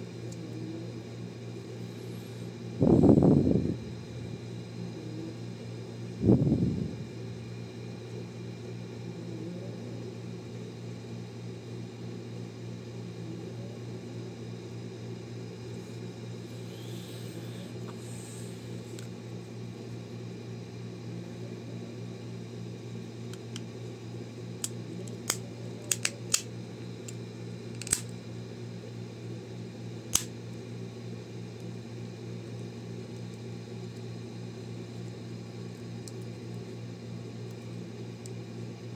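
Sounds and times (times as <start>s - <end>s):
steady background hum: 0.0s - 38.9s.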